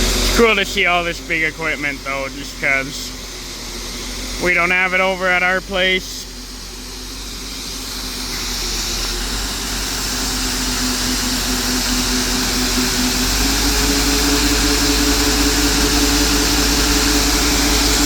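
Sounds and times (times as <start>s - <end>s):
large diesel engine running: 0.0s - 18.0s.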